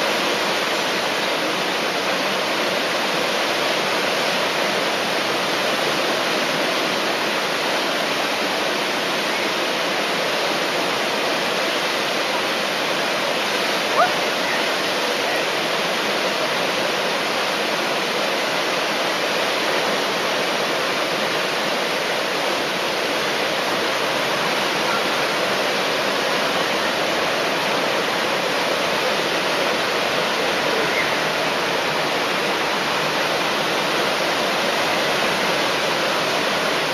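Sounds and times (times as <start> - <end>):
whitewater rushing over weir: 0.0 - 36.9.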